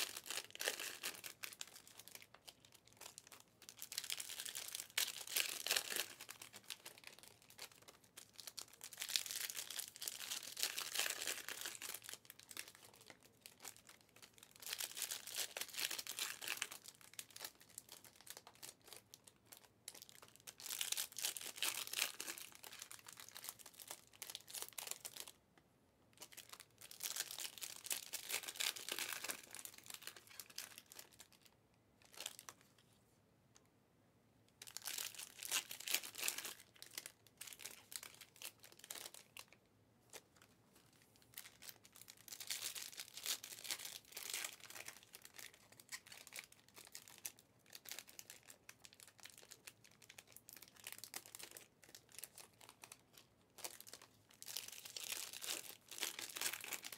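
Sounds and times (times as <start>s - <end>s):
wrappers crinkling: 0.0s - 25.4s, 26.2s - 31.4s, 34.6s - 56.9s.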